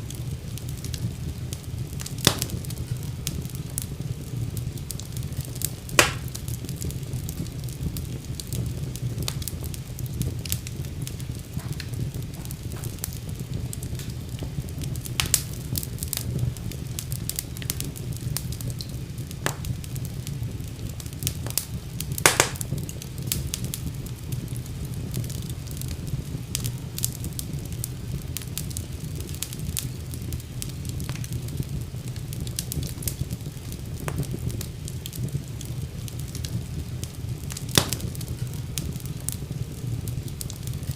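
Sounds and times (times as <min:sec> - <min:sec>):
fire rumbling with crackles: 0:00.0 - 0:40.9.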